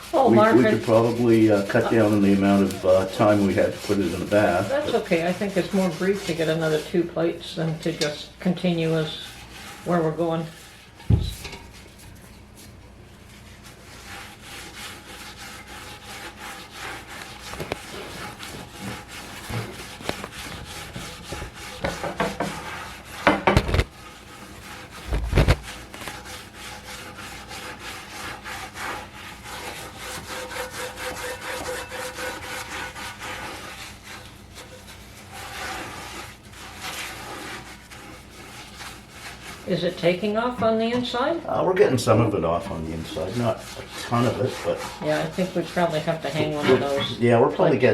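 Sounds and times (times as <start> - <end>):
steel wool scrubbing cast iron: 0.0 - 47.9.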